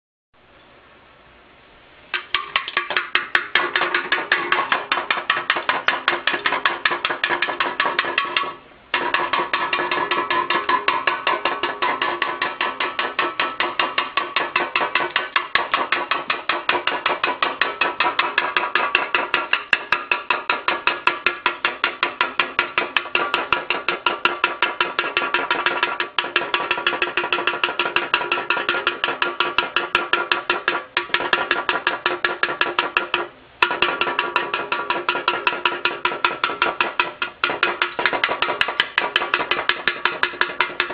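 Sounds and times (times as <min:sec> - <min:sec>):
bird pecking at metal can: 0:02.2 - 0:40.9.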